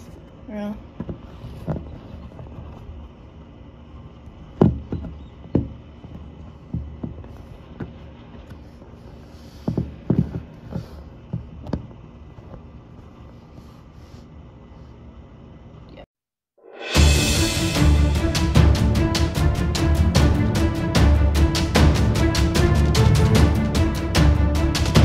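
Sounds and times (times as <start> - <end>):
steady low hum: 0.0 - 16.1, 16.8 - 25.0.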